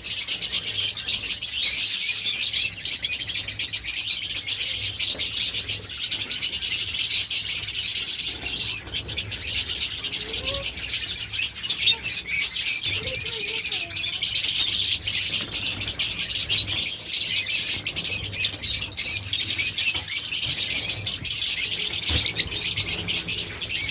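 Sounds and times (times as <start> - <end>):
caged birds chattering: 0.0 - 23.9.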